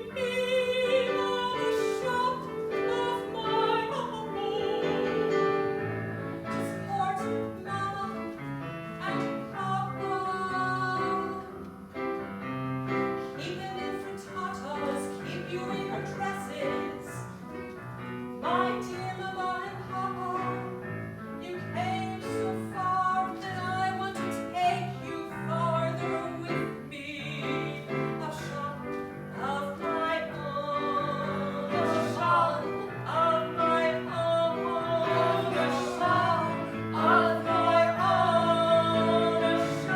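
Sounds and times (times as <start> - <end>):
woman singing: 0.0 - 5.7, 6.5 - 11.6, 13.4 - 17.3, 18.4 - 39.9
instrumental accompaniment: 0.0 - 39.9.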